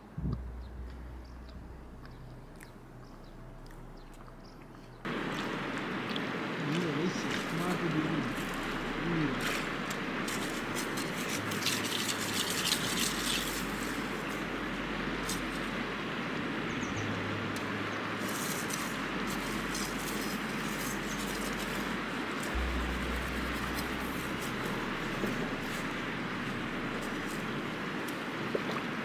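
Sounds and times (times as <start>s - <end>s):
river water rushing: 5.0s - 29.0s.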